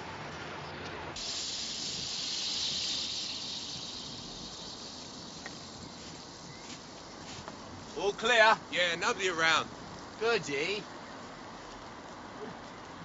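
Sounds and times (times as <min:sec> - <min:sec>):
loud steady hiss: 0:01.0 - 0:13.0.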